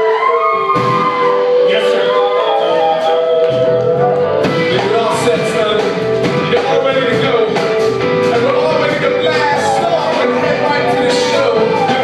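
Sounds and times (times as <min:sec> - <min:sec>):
bass guitar: 0:00.0 - 0:12.0
flute melody: 0:00.0 - 0:12.0
guitar: 0:00.0 - 0:12.0
drums and cymbals beat: 0:00.7 - 0:12.0.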